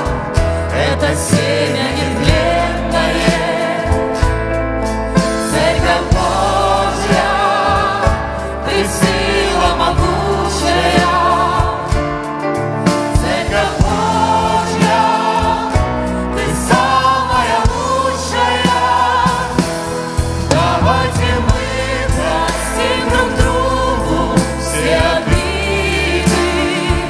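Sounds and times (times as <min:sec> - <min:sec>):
several voices singing: 0:00.0 - 0:04.5, 0:05.2 - 0:27.0
band playing with a beat: 0:00.0 - 0:27.0.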